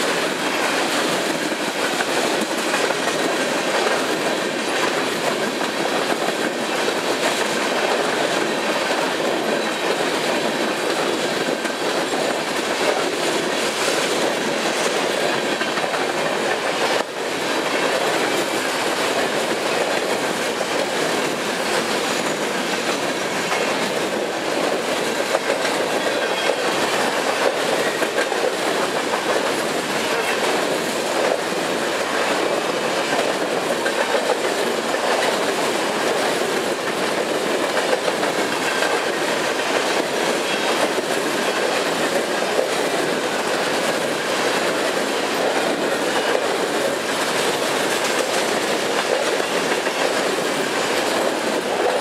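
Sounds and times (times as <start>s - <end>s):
freight train wheels rumbling on rail: 0.0s - 52.0s
wheels clacking over rail joints: 0.0s - 52.0s.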